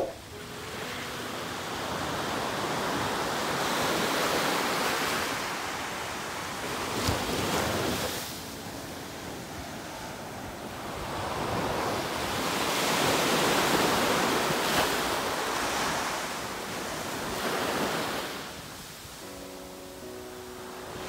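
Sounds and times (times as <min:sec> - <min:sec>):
waves breaking on sandy beach: 0:00.0 - 0:21.0.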